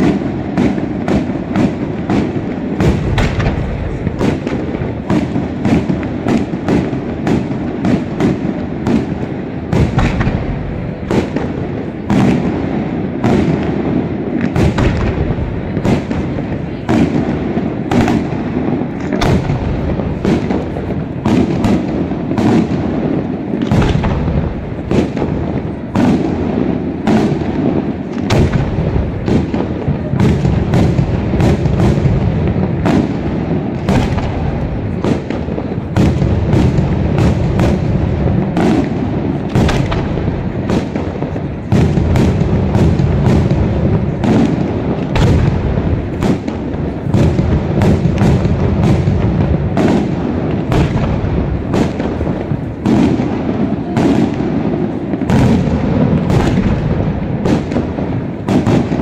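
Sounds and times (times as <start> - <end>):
firework shells bursting: 0.0 - 59.0
rumble of booms and echoes: 0.0 - 59.0.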